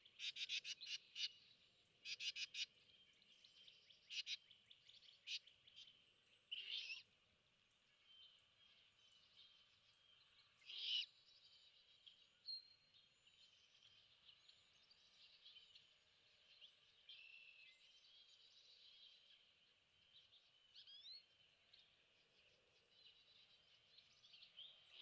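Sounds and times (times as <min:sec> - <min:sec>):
faint background birdsong: 0:00.0 - 0:25.0.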